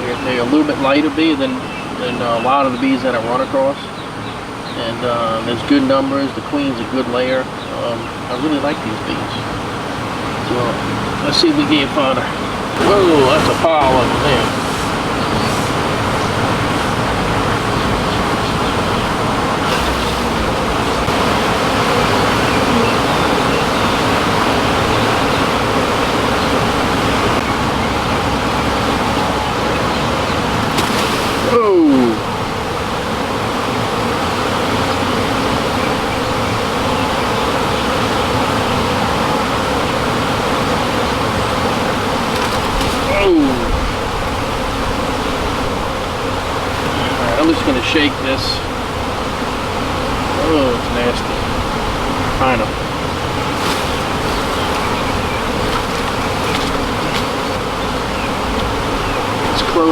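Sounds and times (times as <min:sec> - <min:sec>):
honey bees buzzing: 0:00.0 - 0:59.9.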